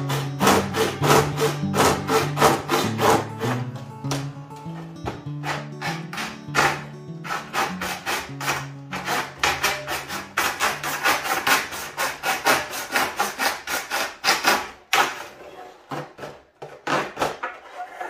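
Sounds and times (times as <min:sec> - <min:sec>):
hand saw cutting plastic: 0:00.0 - 0:03.8, 0:05.3 - 0:18.0.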